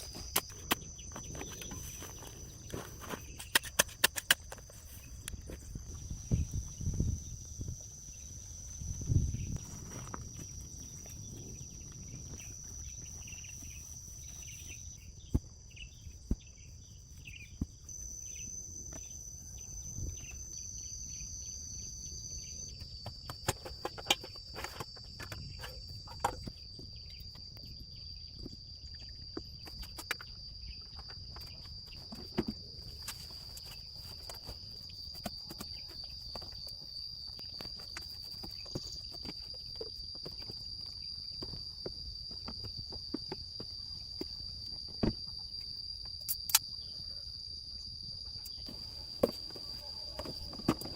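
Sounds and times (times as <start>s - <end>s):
insects chirring: 0.0s - 50.9s.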